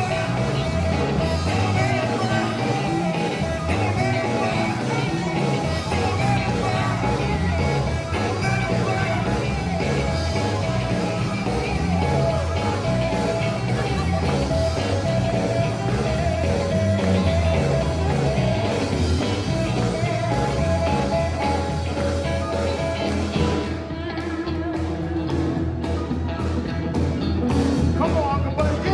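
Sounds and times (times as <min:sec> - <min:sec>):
steel guitar lines: 0:00.0 - 0:27.8
gospel band playing: 0:00.0 - 0:28.9.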